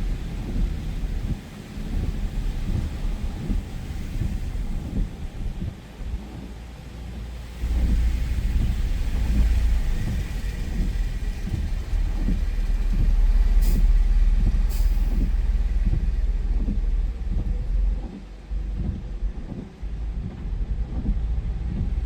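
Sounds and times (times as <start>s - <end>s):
loud low vehicle rumble: 0.0s - 22.0s.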